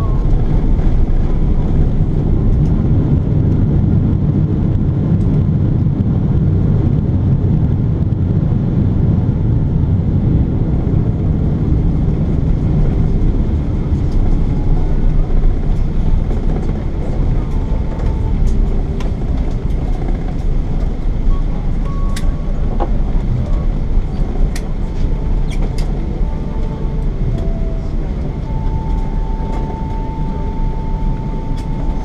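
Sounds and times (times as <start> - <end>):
airplane cabin rumble: 0.0 - 32.0.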